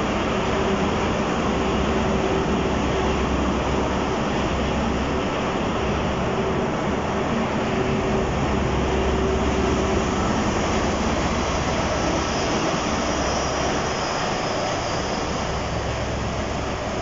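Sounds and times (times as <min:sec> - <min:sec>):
diesel locomotive engine drone: 0:00.0 - 0:17.0
rail rumble: 0:00.0 - 0:17.0.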